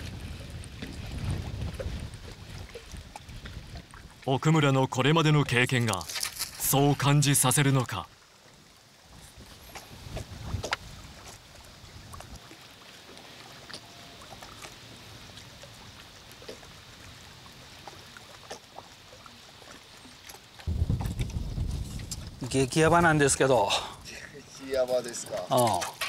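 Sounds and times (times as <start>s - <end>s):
water lapping around a boat: 0.0s - 26.0s.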